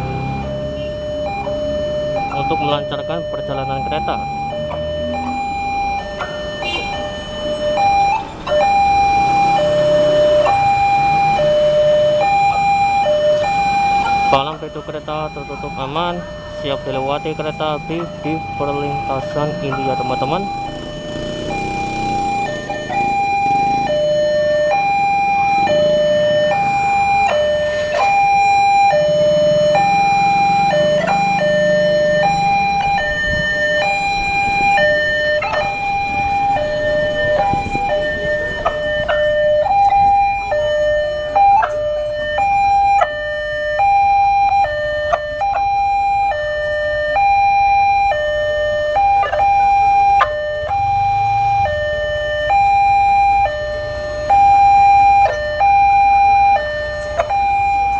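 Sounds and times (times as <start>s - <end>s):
level crossing two-tone alarm: 0.0s - 57.9s.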